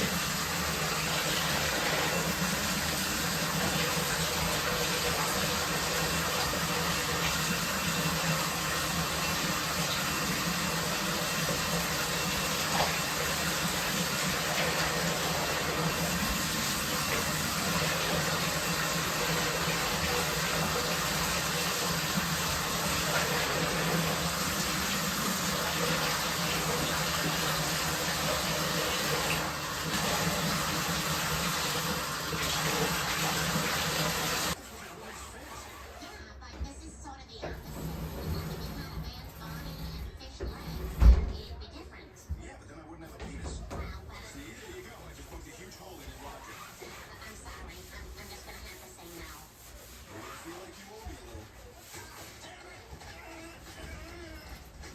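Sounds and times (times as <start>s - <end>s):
water running from tap: 0.0s - 35.9s, 37.4s - 41.4s, 43.6s - 54.9s.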